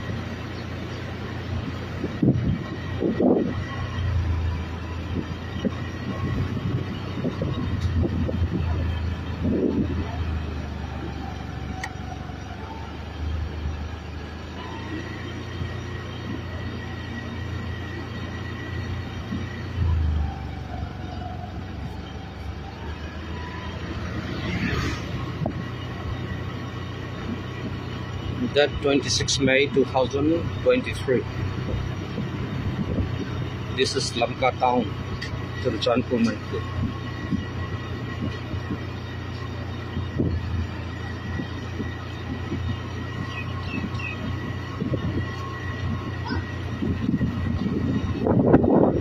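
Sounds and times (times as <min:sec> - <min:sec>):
constant hum: 0:00.0 - 0:49.0
vehicle engine and tyres rumbling: 0:00.0 - 0:49.0.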